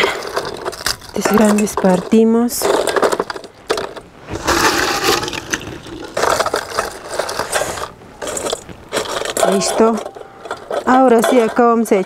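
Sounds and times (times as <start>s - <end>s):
ice crunching and cracking: 0.0s - 12.0s.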